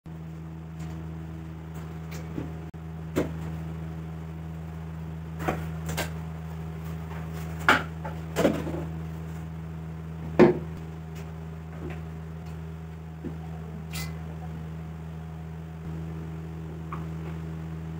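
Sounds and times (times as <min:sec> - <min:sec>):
steady low hum: 0:00.1 - 0:17.9.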